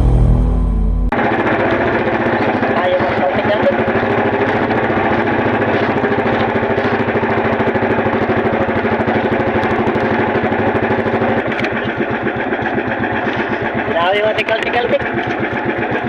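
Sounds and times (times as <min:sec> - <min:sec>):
small engine running: 0:01.1 - 0:16.0.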